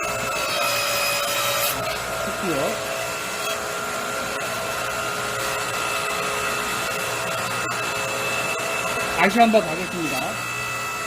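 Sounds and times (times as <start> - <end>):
hydraulic log splitter whirring: 0.0 - 11.0.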